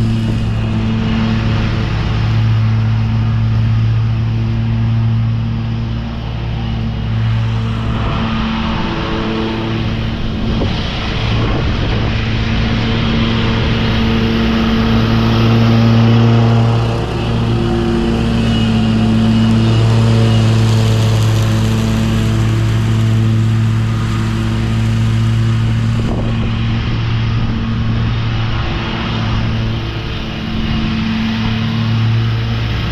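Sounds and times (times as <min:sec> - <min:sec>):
mower engine mulching leaves: 0:00.0 - 0:32.9.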